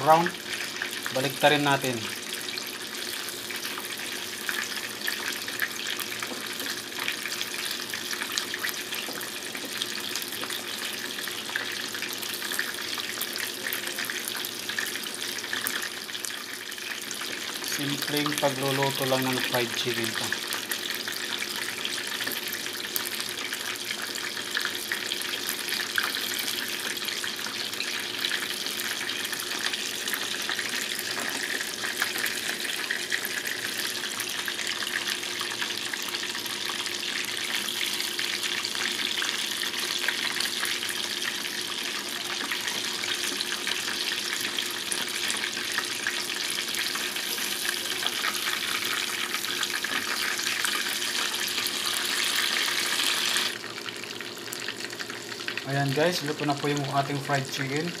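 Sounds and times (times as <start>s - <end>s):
chicken deep-frying in oil: 0.0s - 58.0s.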